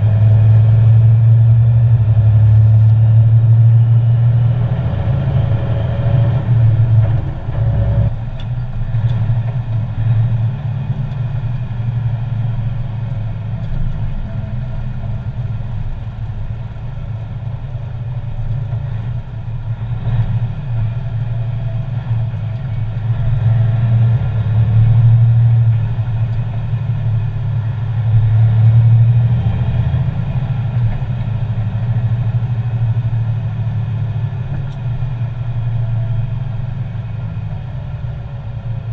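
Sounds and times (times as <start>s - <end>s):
diesel truck engine drone: 0.0s - 38.9s.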